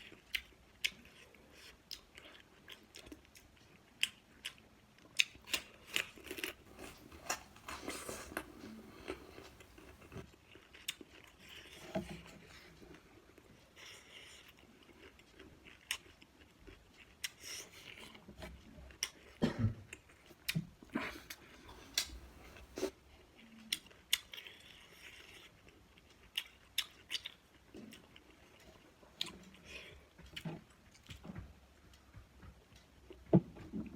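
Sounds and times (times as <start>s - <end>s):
chewing: 0.0s - 33.8s.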